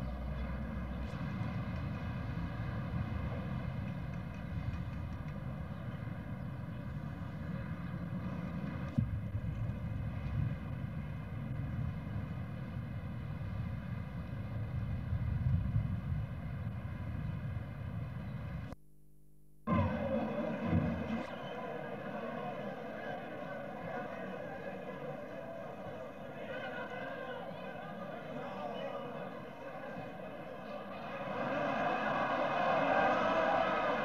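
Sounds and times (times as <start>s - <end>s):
constant hum: 0.0s - 32.4s.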